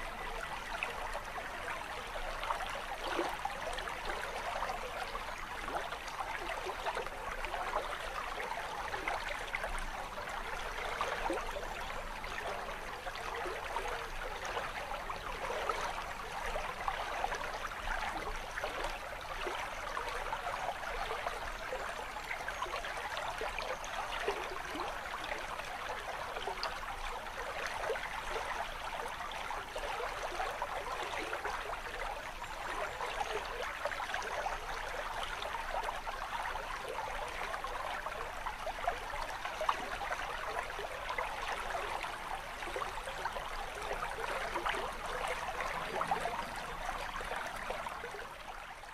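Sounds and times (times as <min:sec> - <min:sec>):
small water cascade: 0:00.0 - 0:48.9
water babbling over stones: 0:00.0 - 0:48.9.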